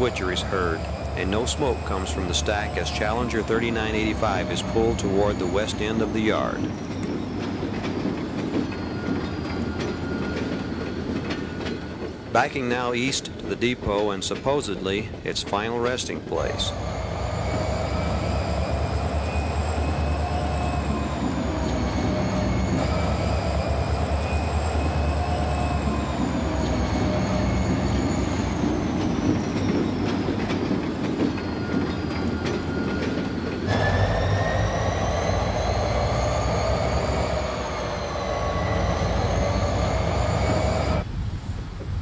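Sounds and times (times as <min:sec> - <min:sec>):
diesel engine running: 0:00.0 - 0:10.4, 0:16.4 - 0:41.0
steel wheels squealing on track: 0:00.0 - 0:41.1.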